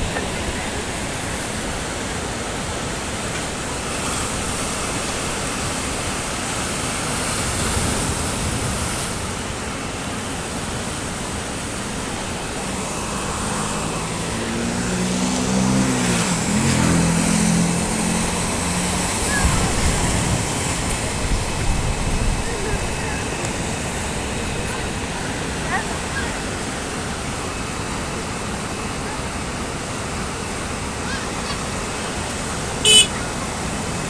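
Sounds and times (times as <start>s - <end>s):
sea surf breaking: 0.0s - 34.0s.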